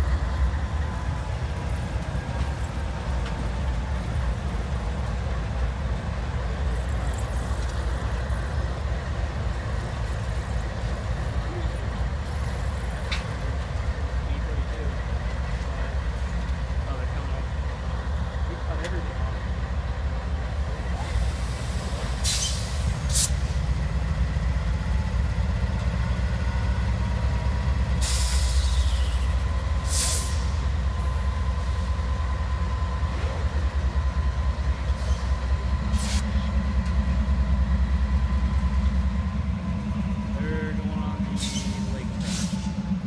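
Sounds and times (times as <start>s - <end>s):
diesel locomotive engines rumbling: 0.0s - 43.0s.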